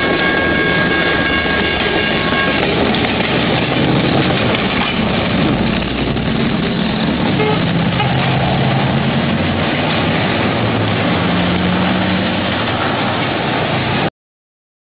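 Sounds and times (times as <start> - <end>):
vehicle rumble: 0.0 - 14.1.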